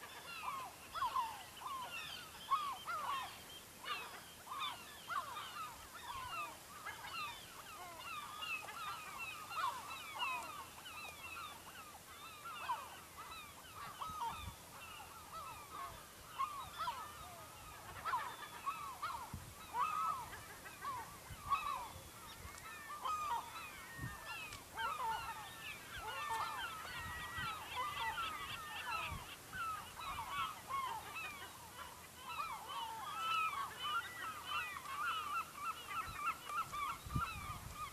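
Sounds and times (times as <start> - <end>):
seagulls calling: 0.0 - 37.9.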